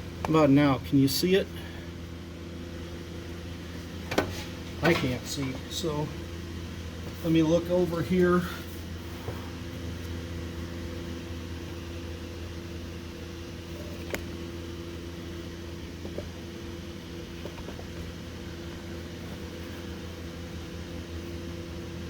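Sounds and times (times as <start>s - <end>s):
electric motor hum: 0.0s - 22.0s.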